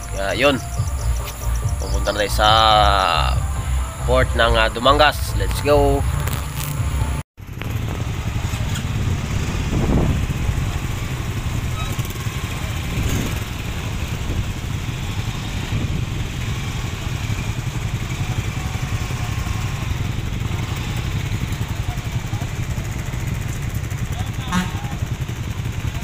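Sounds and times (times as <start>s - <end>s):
motorcycles idling: 0.0s - 26.0s.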